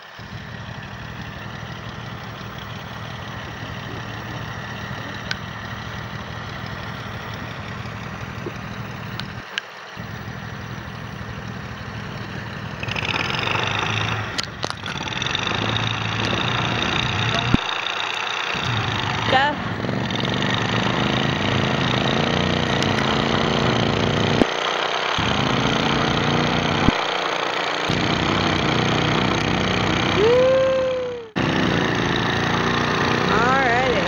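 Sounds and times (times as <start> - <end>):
atv engine idling: 0.0 - 34.0.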